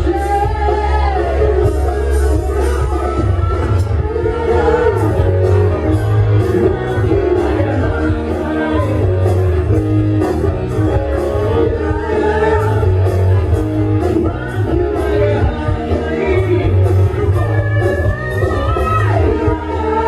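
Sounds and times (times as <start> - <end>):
bass guitar: 0.0 - 20.0
electric guitar: 0.0 - 20.0
person singing: 0.0 - 20.0.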